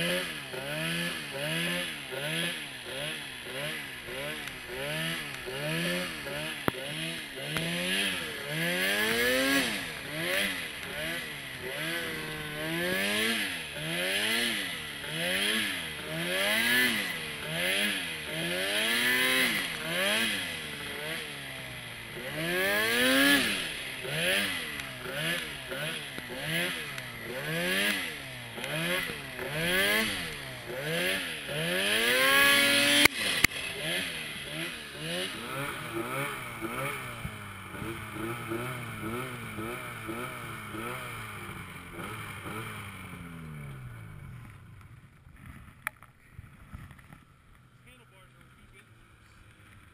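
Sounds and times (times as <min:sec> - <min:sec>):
snowmobile engine revving: 0:00.0 - 0:44.6.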